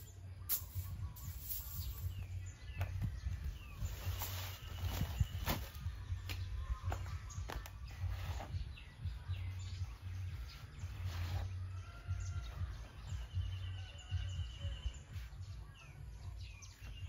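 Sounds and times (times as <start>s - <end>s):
birds chirping and calling: 0.0s - 17.0s
steady bird trill: 0.0s - 17.0s.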